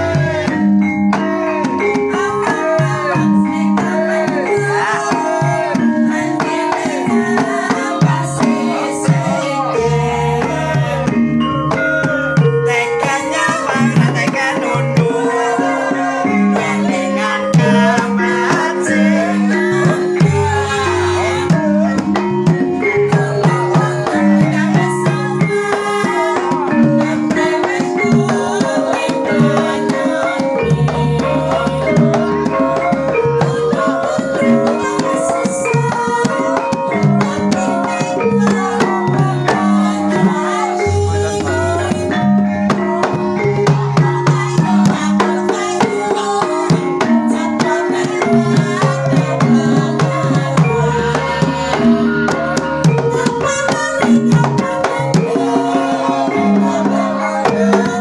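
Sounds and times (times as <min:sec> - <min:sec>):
hand drum patterns: 0:00.0 - 0:58.0
melodic instruments: 0:00.0 - 0:58.0.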